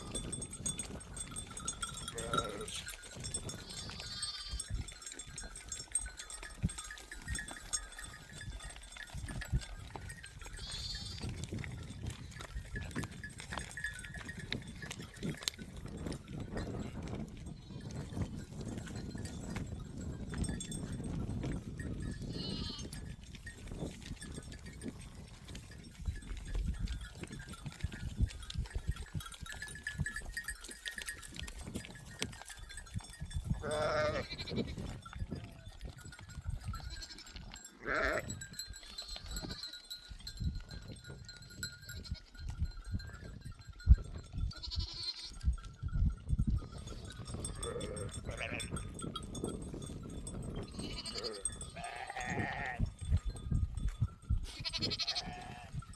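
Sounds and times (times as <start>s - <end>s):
sheep and goats bleating: 0.0s - 45.8s, 46.6s - 53.2s, 54.4s - 55.9s.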